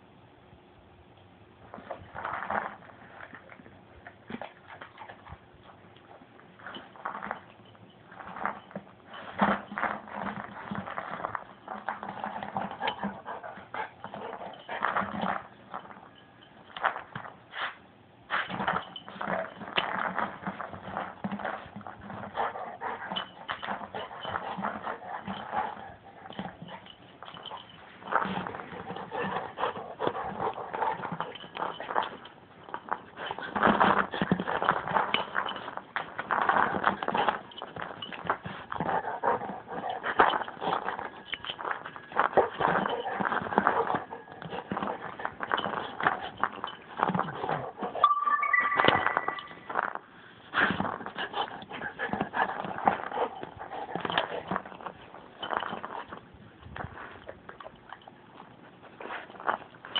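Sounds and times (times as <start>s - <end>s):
dog chewing rubber ball: 1.6s - 17.5s, 18.5s - 48.0s, 50.5s - 59.9s.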